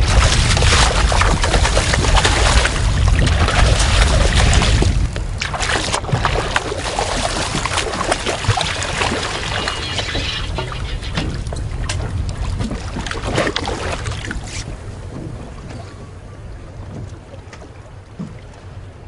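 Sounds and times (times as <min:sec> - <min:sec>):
heavy low rumble: 0:00.0 - 0:17.4
water splashing against a boat: 0:00.0 - 0:19.0.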